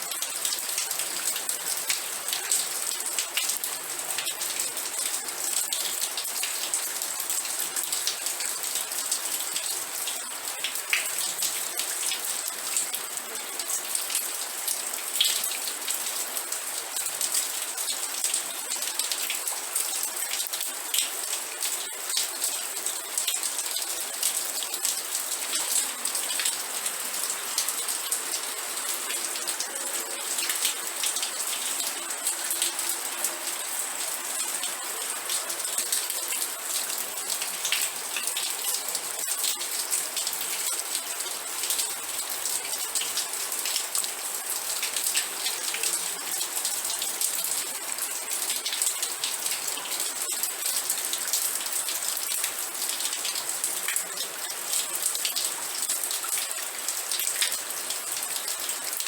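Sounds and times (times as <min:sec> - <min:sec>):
rain pattering on a surface: 0:00.0 - 0:59.0.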